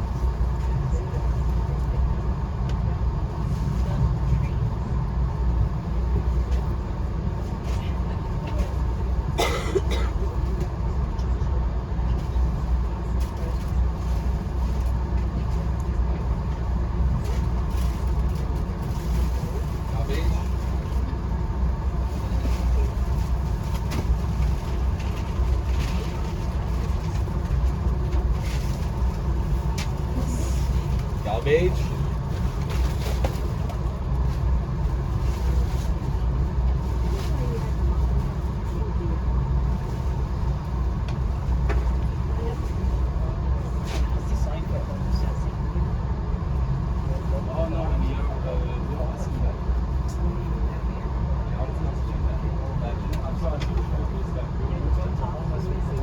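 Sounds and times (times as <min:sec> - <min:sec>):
train running rumble: 0:00.0 - 0:56.0.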